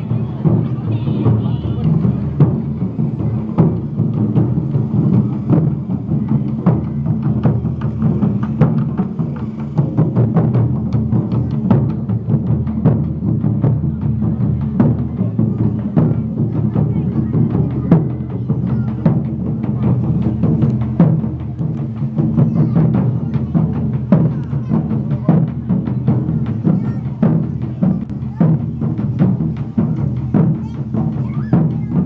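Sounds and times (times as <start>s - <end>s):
drums struck heavily: 0.0s - 32.0s.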